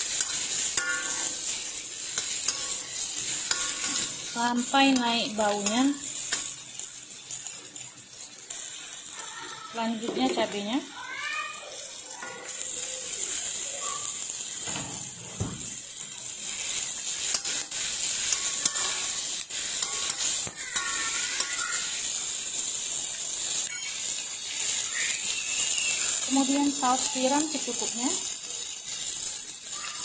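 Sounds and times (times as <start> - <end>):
metal spatula scraping wok: 0.0 - 9.2, 12.2 - 30.0
food sizzling in hot oil: 0.0 - 30.0.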